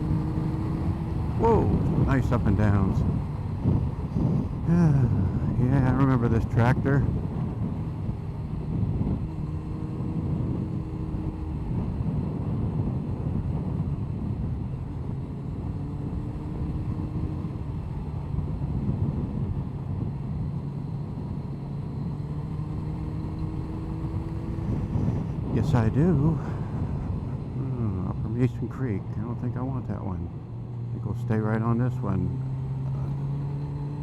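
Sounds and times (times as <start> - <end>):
motorcycle engine running: 0.0 - 28.4
wind and road noise: 0.0 - 34.0.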